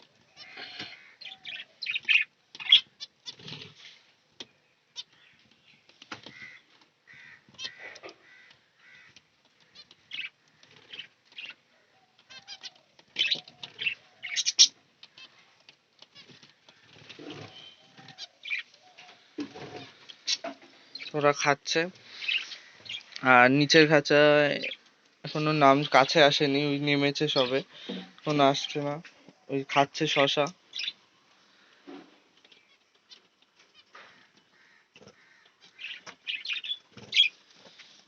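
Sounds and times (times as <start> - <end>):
birds chirping and chattering: 0.0 - 38.0.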